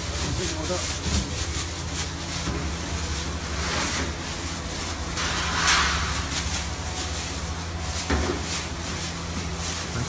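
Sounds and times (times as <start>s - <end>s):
plastic bags rustling: 0.0s - 10.0s.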